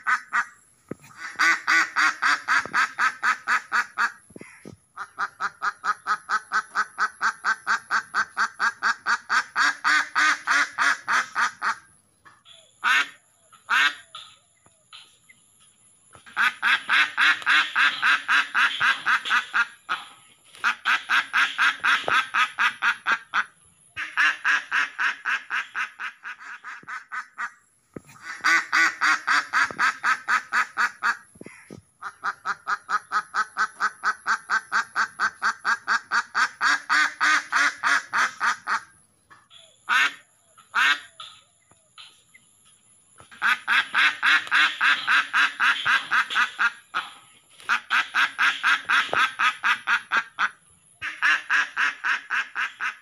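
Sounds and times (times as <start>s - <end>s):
ducks quacking: 0.0s - 14.3s, 16.2s - 41.4s, 43.2s - 53.0s.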